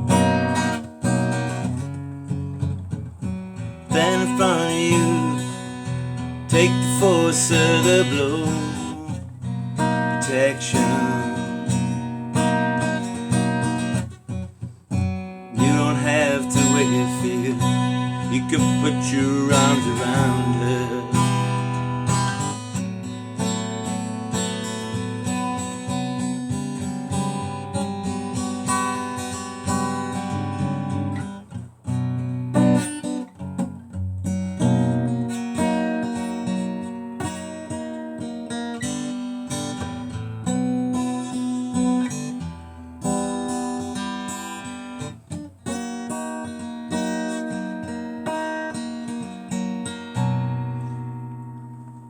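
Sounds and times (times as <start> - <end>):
acoustic guitar chords: 0.0 - 52.0.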